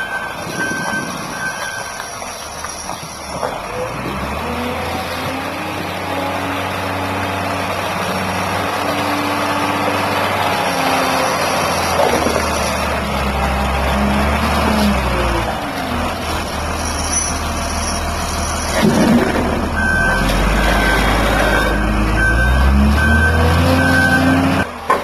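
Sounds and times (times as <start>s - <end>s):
wheel loader diesel engine: 0.0s - 25.0s.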